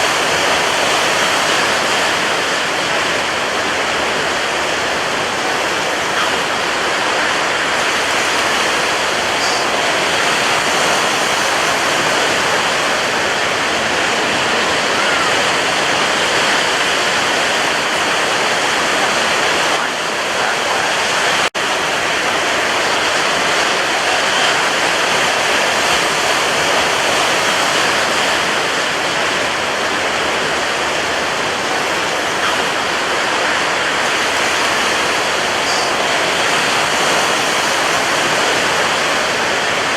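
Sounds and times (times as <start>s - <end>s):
sea surf rushing: 0.0s - 39.9s.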